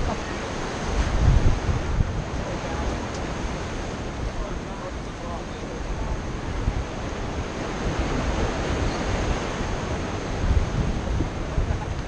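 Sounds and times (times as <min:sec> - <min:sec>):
ocean waves breaking against pilings: 0:00.0 - 0:12.0
wind gusting on microphone: 0:00.0 - 0:12.0.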